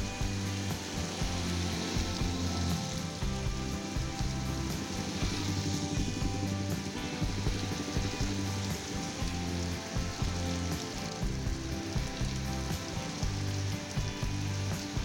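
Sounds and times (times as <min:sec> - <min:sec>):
background music bass line: 0:00.0 - 0:15.0
heavy rain on road: 0:00.0 - 0:15.0.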